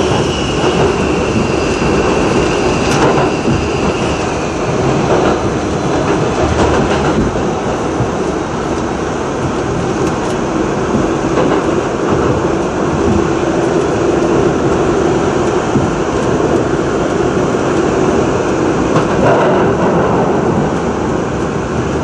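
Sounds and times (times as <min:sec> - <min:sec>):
subway train rumbling in tunnel: 0:00.0 - 0:22.0.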